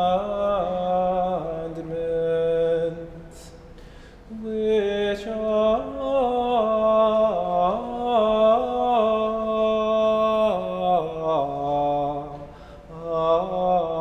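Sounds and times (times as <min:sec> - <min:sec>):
person chanting: 0:00.0 - 0:03.6, 0:04.3 - 0:14.0.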